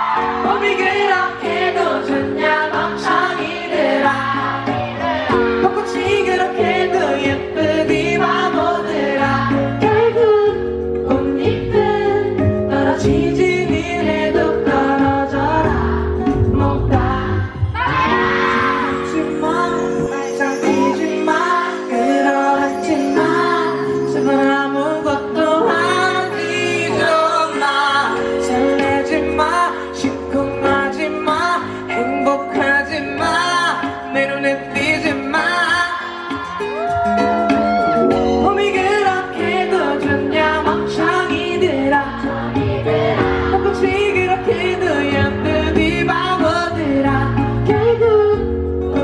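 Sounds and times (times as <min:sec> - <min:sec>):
man singing into a microphone: 0:00.0 - 0:04.2, 0:05.3 - 0:49.0
band accompaniment: 0:00.0 - 0:49.0.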